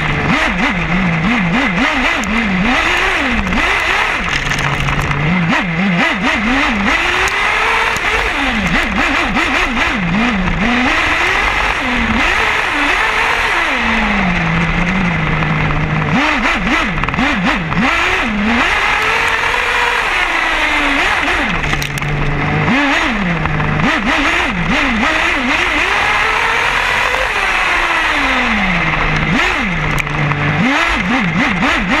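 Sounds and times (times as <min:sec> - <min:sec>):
model car engine revving: 0:00.0 - 0:32.0.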